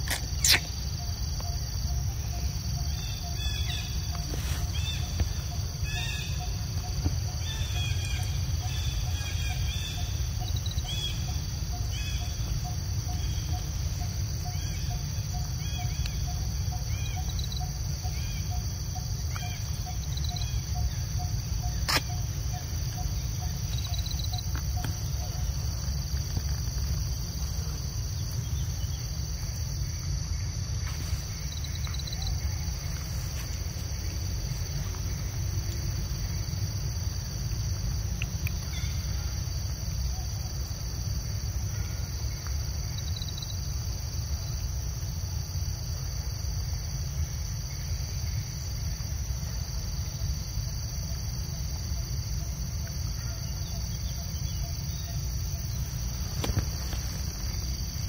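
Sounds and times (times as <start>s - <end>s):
constant low rumble: 0.0s - 58.0s
insect chorus trilling: 0.0s - 58.0s.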